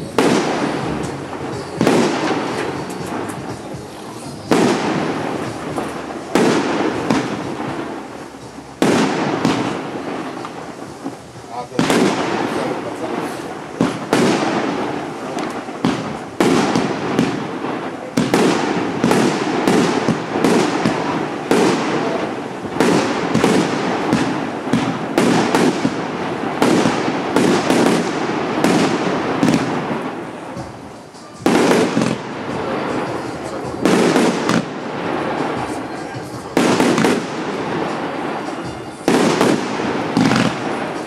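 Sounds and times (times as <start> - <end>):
fireworks bangs: 0.0 - 41.0
hissing crackle: 0.0 - 41.0.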